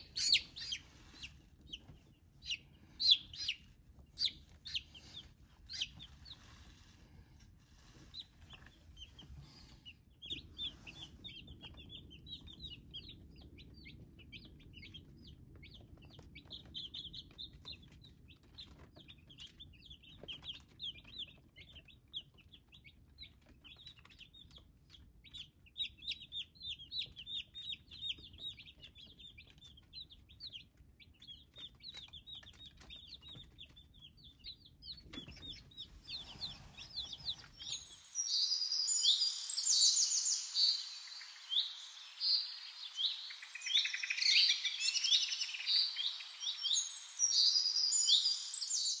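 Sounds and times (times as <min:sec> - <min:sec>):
chicks peeping: 0:00.0 - 0:49.0.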